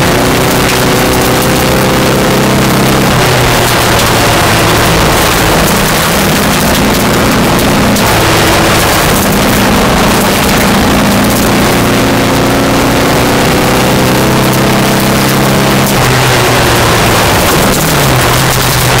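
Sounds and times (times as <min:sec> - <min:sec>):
rally car engine running hard: 0:00.0 - 0:19.0.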